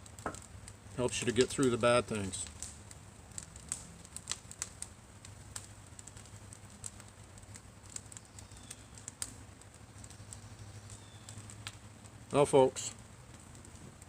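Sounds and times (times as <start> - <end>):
faint background hum: 0.0 - 14.0
wood fire crackling: 0.0 - 14.0.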